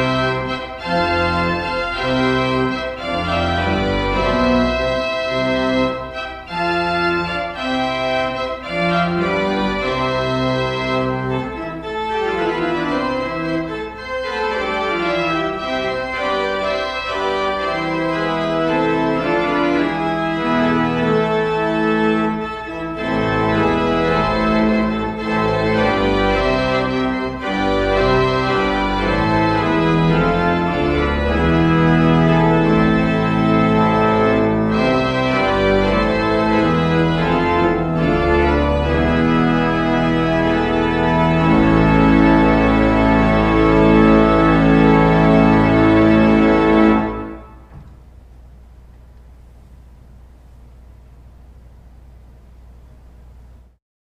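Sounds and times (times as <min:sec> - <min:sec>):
church organ playing chords: 0:00.0 - 0:48.3.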